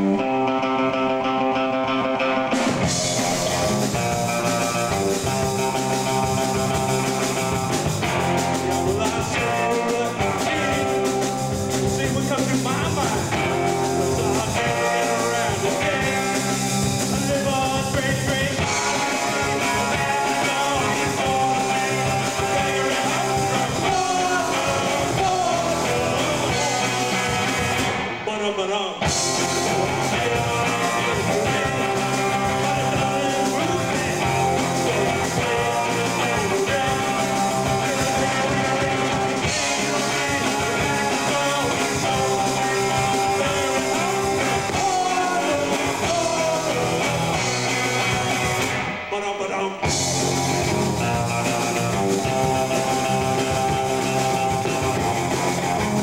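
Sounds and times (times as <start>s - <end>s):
bass guitar: 0.0s - 56.0s
drums: 0.0s - 56.0s
electric guitars: 0.0s - 56.0s.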